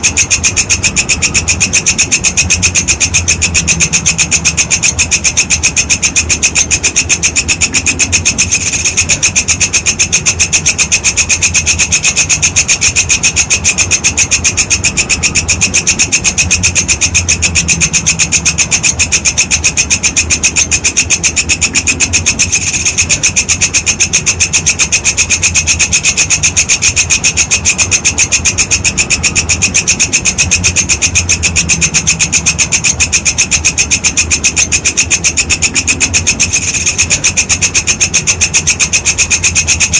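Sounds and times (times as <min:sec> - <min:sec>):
grasshopper calling: 0:00.0 - 0:39.9
low hum: 0:00.0 - 0:39.9.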